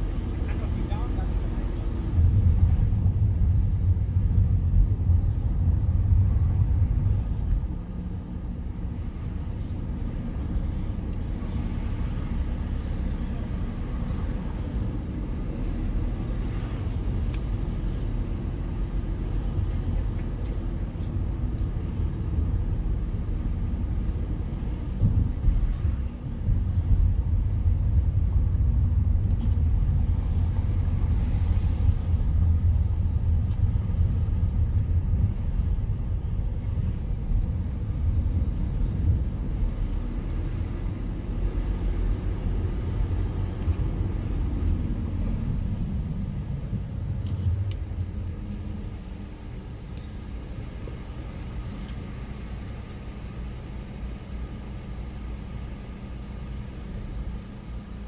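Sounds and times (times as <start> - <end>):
car road noise rumble: 0.0 - 58.0.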